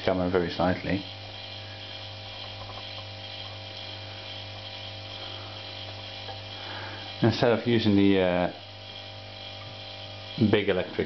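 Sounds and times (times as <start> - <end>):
compressor electric hum: 0.0 - 11.0.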